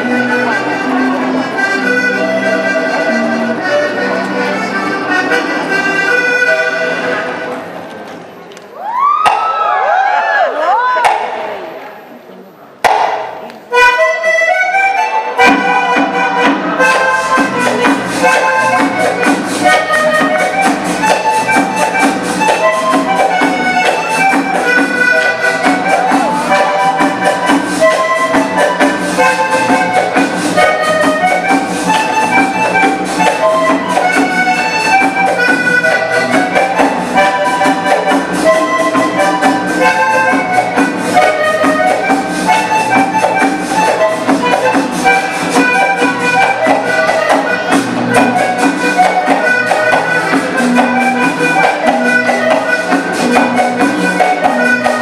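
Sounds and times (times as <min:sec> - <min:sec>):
folk band with guitars and drums: 0:00.0 - 0:08.7, 0:12.8 - 0:55.0.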